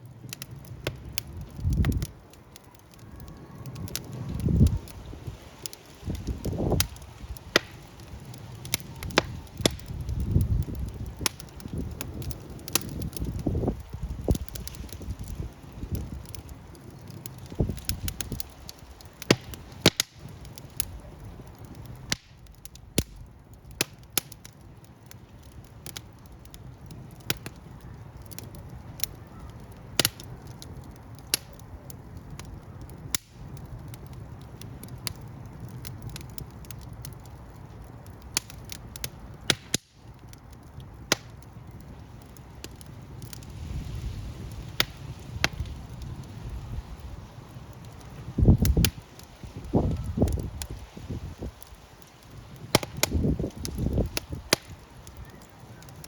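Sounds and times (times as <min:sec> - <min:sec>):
low rumble of burning: 0:00.0 - 0:56.0
wood fire crackling: 0:00.0 - 0:56.0.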